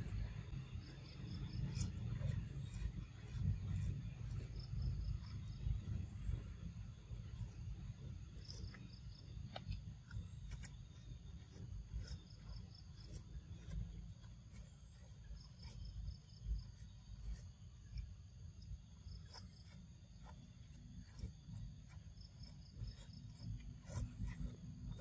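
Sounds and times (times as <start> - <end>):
insects chirping: 0.0 - 25.0
low steady rumble: 0.0 - 25.0.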